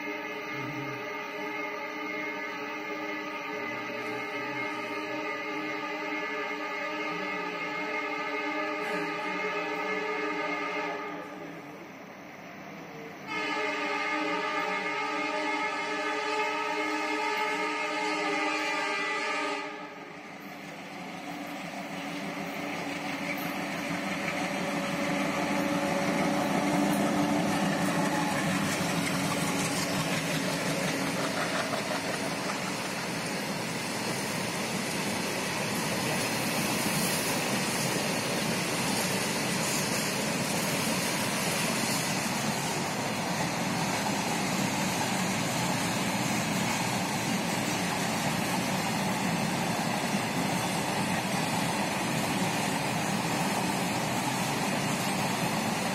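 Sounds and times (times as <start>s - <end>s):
train rumble and hiss: 0.0s - 55.9s.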